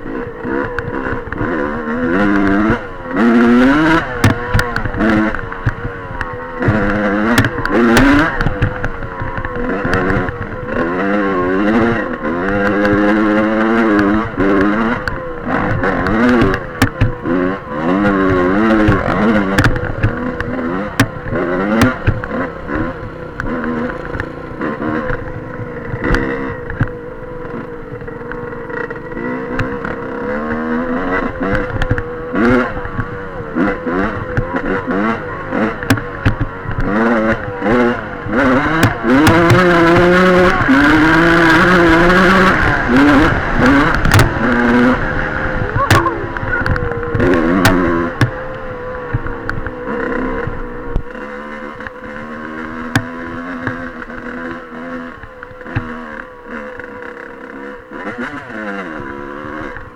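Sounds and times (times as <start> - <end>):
dirt bike engine revving: 0.0 - 59.9
clatter and knocks: 0.1 - 56.3.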